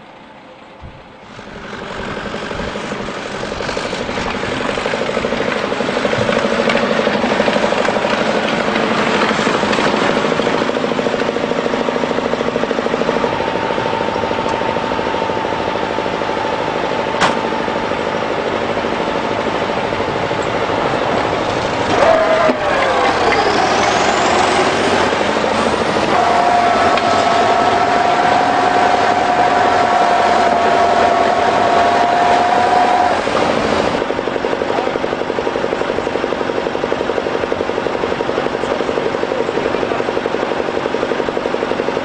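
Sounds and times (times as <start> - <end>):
diesel engine rattling under load: 0.0 - 42.0
thin steady whine: 0.0 - 42.0.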